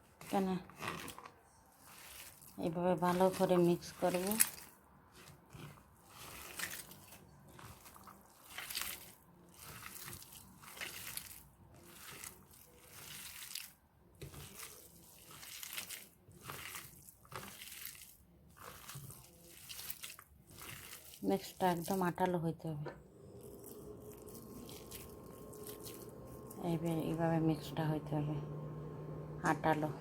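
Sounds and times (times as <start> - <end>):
hands squishing minced meat: 0.0 - 22.3, 23.4 - 27.3.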